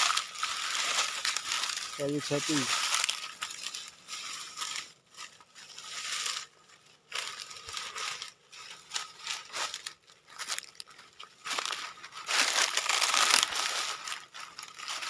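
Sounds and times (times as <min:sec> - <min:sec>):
rustling and crunching: 0:00.0 - 0:15.0.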